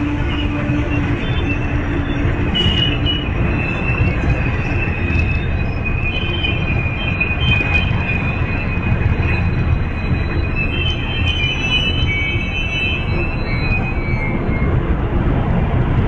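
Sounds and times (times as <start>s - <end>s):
high-pitched wheel squeal: 0.0s - 15.0s
train wheels rumbling on rail: 0.0s - 16.0s.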